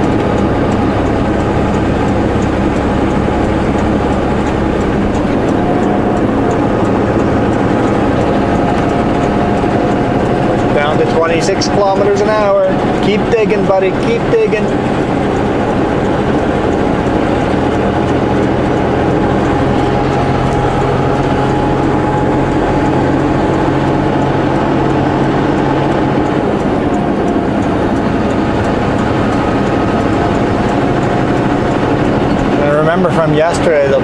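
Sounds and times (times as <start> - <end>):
truck diesel engine running: 0.0 - 34.0
tyre and road noise: 0.0 - 34.0.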